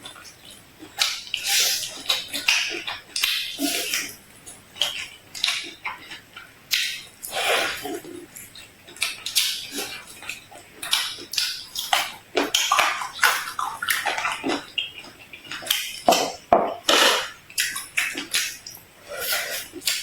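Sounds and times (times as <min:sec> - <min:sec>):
crunching and chewing food: 0:00.0 - 0:20.0.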